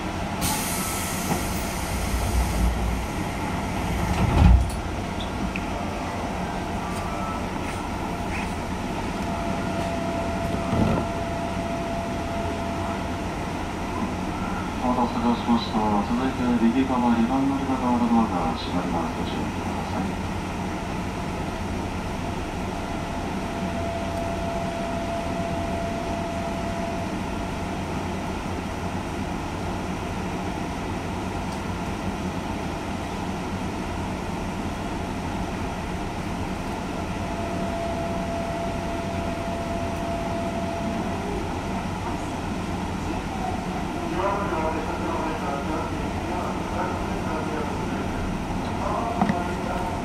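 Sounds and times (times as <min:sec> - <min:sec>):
electric train humming: 0:00.0 - 0:50.0.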